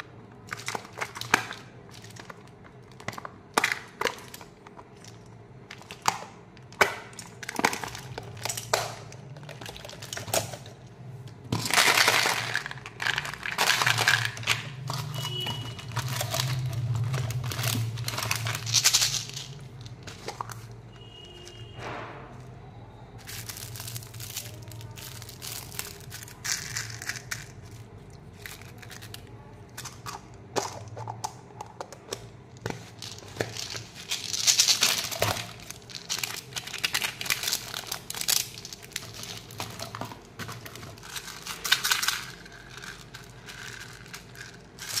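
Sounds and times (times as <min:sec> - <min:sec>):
plastic wrappers crinkling: 0:00.0 - 0:21.7, 0:23.1 - 0:45.0.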